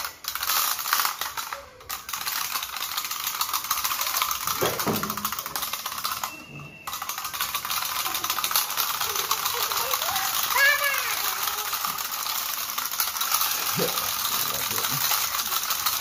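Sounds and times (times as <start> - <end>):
wind-up toys clicking rattle: 0.0 - 16.0.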